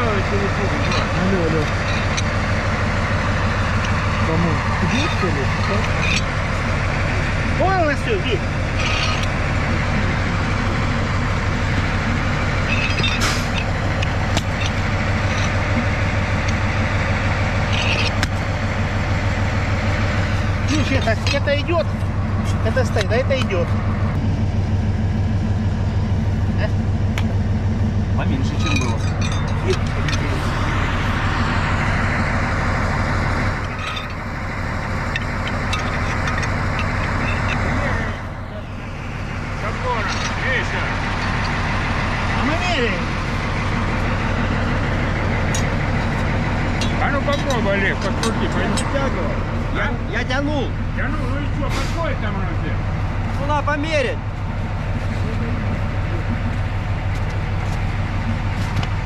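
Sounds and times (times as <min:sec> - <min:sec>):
locomotive diesel engine idling: 0:00.0 - 0:59.0.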